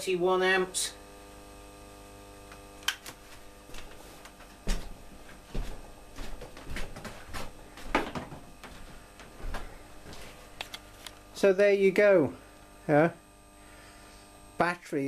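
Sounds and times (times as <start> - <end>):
battery charger electrical hum: 0.0 - 15.0.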